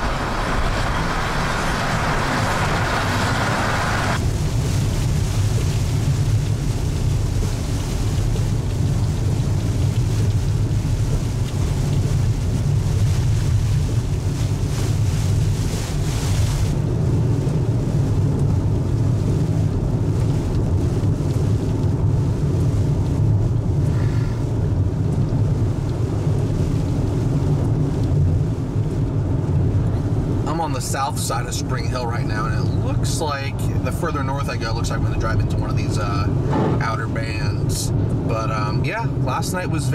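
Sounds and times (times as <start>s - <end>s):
car road rumble: 0.0s - 39.9s
rain and wet tyres hissing: 0.0s - 39.9s.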